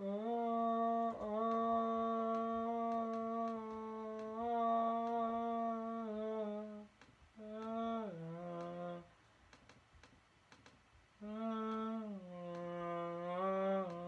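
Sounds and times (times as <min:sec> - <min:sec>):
person humming: 0:00.0 - 0:09.7, 0:11.2 - 0:14.0
faint clicks: 0:00.0 - 0:14.0.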